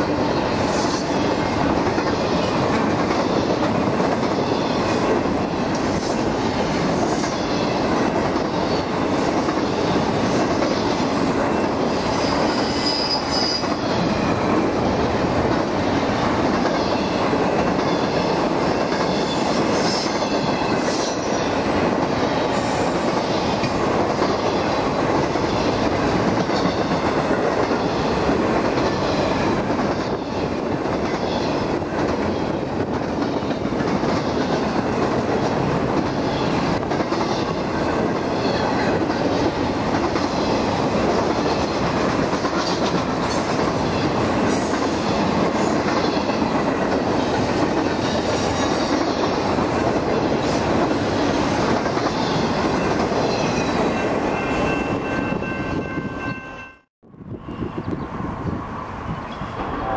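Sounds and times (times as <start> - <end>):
clickety-clack of train cars: 0.0 - 56.9
train wheels rumbling on rails: 0.0 - 59.9.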